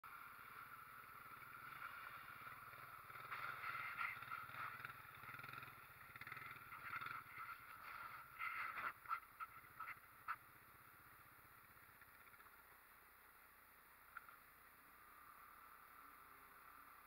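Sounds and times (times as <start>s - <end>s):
atv engine running at low revs: 0.0s - 17.0s.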